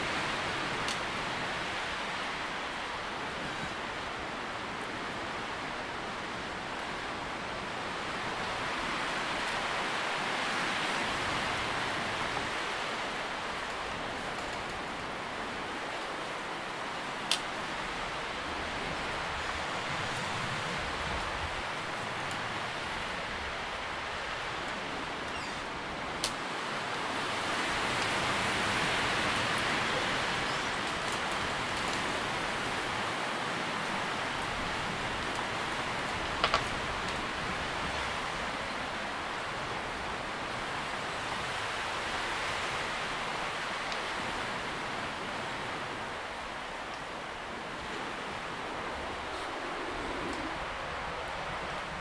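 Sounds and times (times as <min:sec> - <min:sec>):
wind rustling tree leaves: 0:00.0 - 0:52.0.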